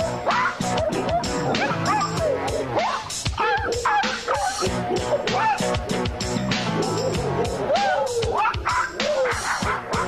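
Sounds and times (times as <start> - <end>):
yelping dog-like calls: 0.0 - 5.8, 7.0 - 10.0
upbeat rock music: 0.0 - 10.0.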